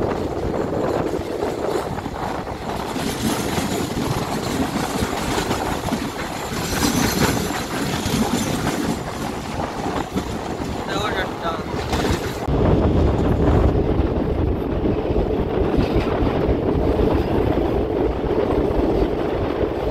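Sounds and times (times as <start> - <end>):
train coach rumbling: 0.0 - 19.9
wheels clattering over rail joints: 0.0 - 19.9.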